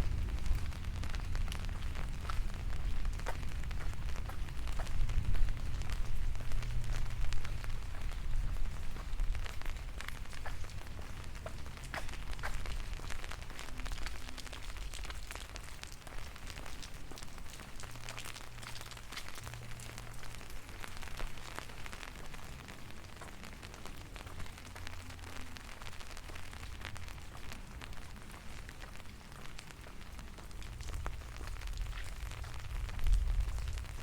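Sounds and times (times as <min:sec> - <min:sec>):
low rain rumble: 0:00.0 - 0:34.0
raindrops ticking: 0:00.0 - 0:34.0.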